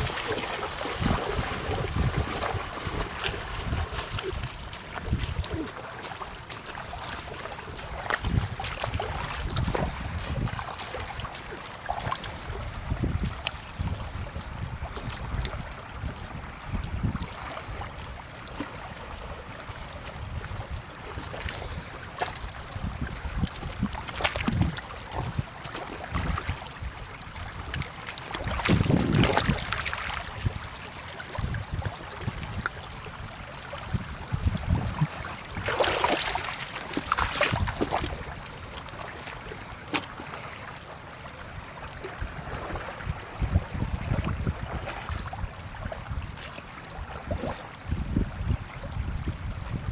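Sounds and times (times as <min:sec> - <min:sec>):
shallow water splashing: 0:00.0 - 0:13.8, 0:17.0 - 0:47.8
wind rumble on microphone: 0:00.0 - 0:40.0, 0:41.3 - 0:49.9.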